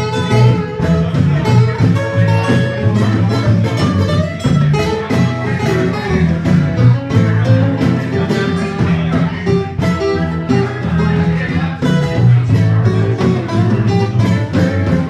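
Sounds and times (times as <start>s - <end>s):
live band with acoustic guitars: 0.0s - 15.0s.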